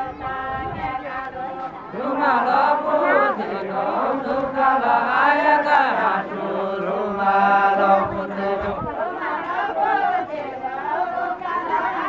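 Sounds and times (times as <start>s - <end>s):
men singing folk song together: 0.0s - 12.0s.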